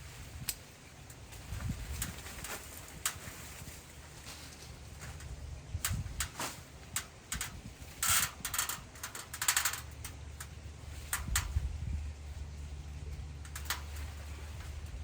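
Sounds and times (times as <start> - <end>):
crackling rustles: 0.0 - 15.0.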